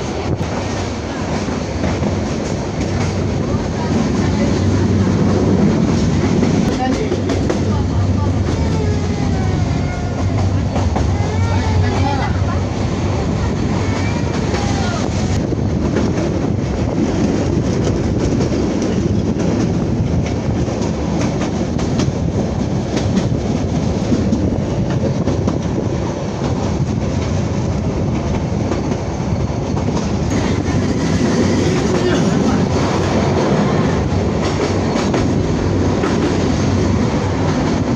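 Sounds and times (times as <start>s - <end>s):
train coach running noise: 0.0s - 37.9s.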